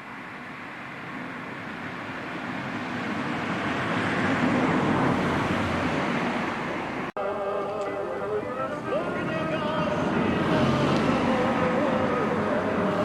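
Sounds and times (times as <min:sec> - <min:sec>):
vehicle driving past: 0:01.0 - 0:07.1, 0:08.6 - 0:13.0.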